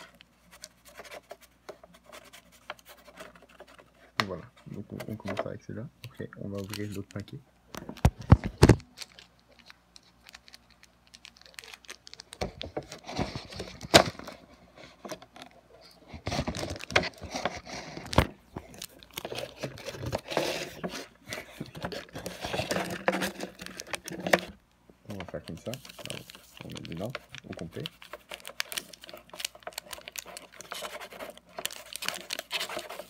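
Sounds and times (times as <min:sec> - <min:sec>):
plastic packaging crinkling: 0:06.4 - 0:33.0.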